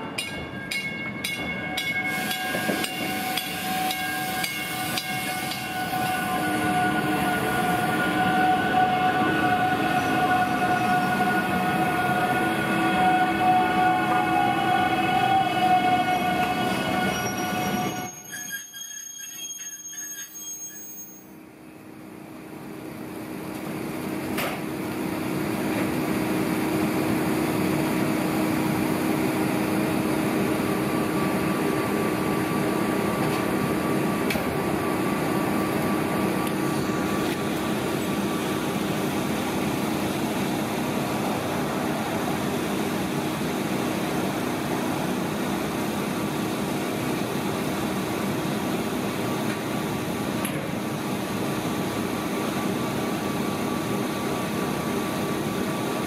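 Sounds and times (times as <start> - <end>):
train blowers humming: 0.0 - 18.3, 21.8 - 56.0.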